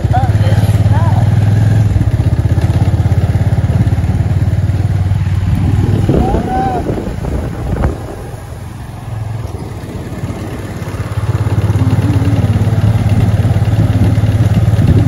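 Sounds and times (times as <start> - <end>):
small motorbike engine running: 0.0 - 15.0.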